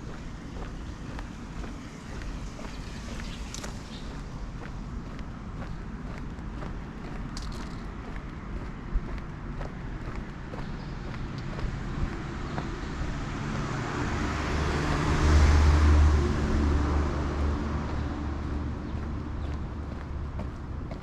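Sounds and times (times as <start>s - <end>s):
vehicle passing on road: 0.0s - 21.0s.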